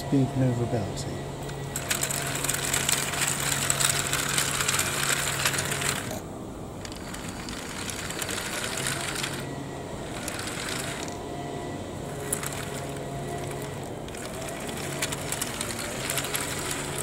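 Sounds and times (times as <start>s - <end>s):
toy tracks whirring and rattling: 1.4s - 6.2s, 6.8s - 11.2s, 12.0s - 17.0s.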